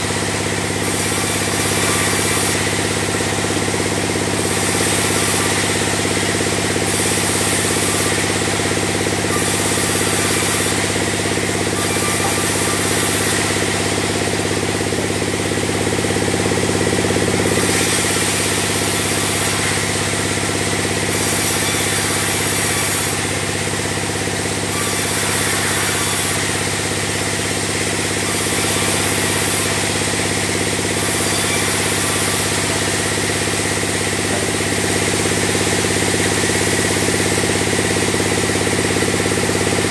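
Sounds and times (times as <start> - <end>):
bandsaw cutting timber: 0.0 - 39.9.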